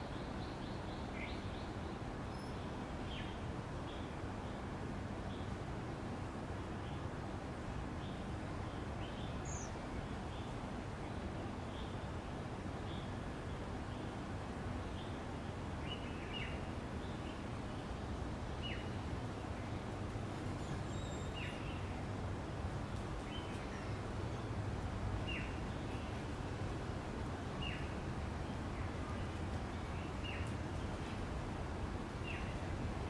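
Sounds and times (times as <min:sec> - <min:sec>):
outdoor background hum: 0:00.0 - 0:33.0.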